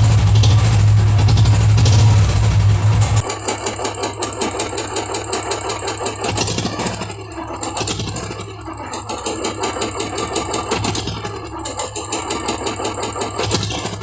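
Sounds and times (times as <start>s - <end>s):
electric starter: 0.0s - 14.0s
engine ticking: 0.0s - 14.0s
motorcycle engine idling: 0.0s - 14.0s.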